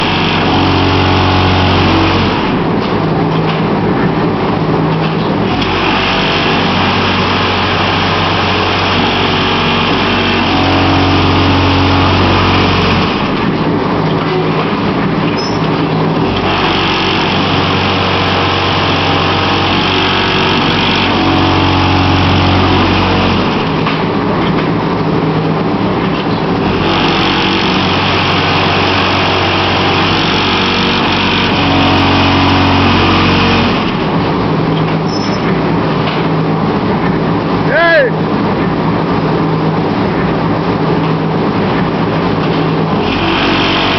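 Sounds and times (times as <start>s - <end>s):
block machine buzzing: 0.0s - 37.5s, 38.5s - 43.9s.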